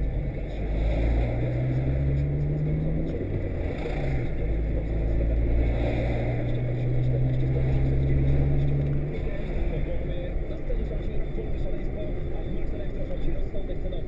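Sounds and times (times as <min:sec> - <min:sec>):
car engine drone and road rumble: 0:00.0 - 0:14.0.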